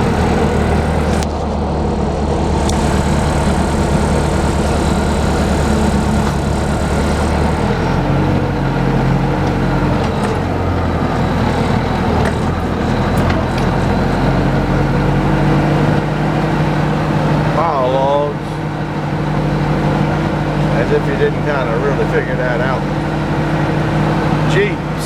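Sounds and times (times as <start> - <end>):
forklift engine running: 0.0 - 25.0.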